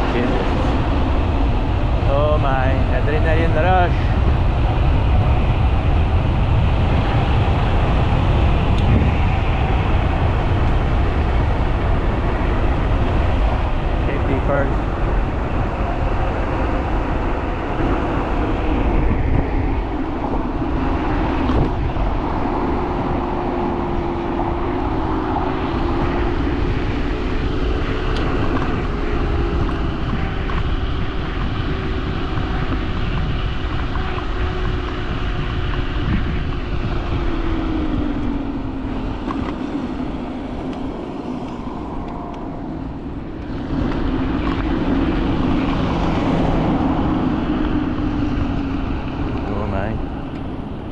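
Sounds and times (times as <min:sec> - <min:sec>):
electric scooter motor whine: 0:00.0 - 0:50.9
heavy low wind: 0:00.0 - 0:50.9
road rumble: 0:00.0 - 0:50.9.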